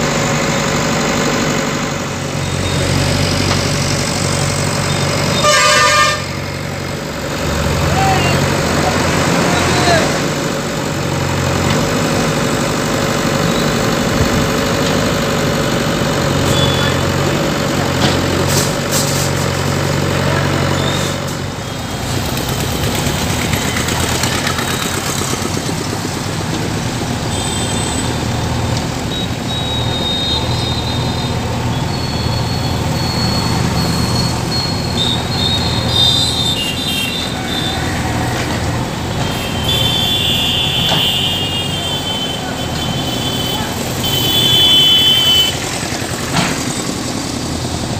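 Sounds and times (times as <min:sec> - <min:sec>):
diesel engine running under load: 0:00.0 - 0:47.9.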